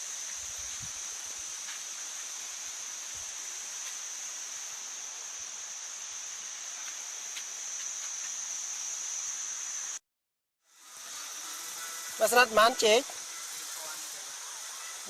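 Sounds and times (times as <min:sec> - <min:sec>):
high-pitched hiss: 0:00.0 - 0:10.0, 0:10.6 - 0:15.0.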